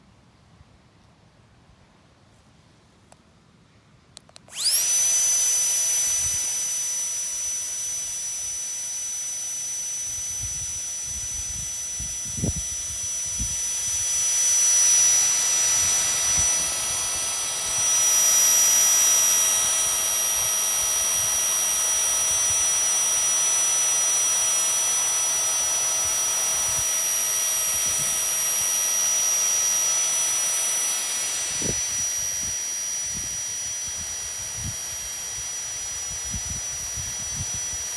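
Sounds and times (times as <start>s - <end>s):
electric air pump whining: 4.4s - 37.9s.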